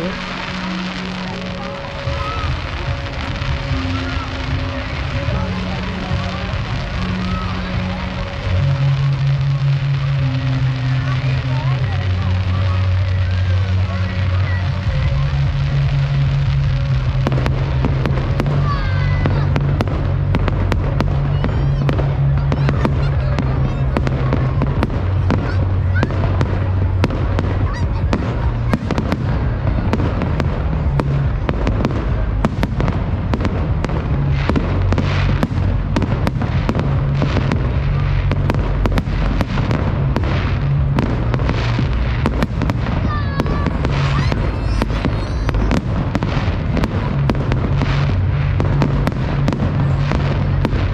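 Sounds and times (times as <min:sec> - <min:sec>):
firework whistles: 0:00.0 - 0:29.3, 0:31.0 - 0:50.9
background music with bass line: 0:00.0 - 0:50.9
fireworks bangs and crackles: 0:00.0 - 0:50.9.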